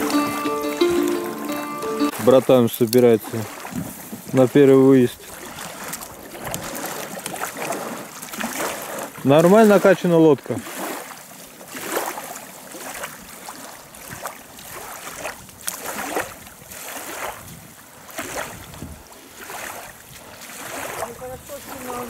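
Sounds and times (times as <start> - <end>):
oars splashing in water: 0.0 - 22.0.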